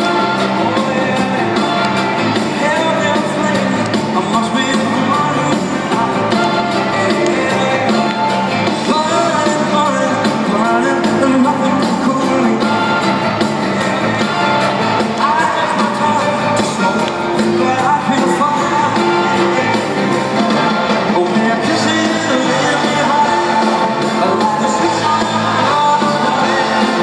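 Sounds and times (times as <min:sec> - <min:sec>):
live rock band playing: 0:00.0 - 0:27.0
man singing: 0:00.0 - 0:27.0.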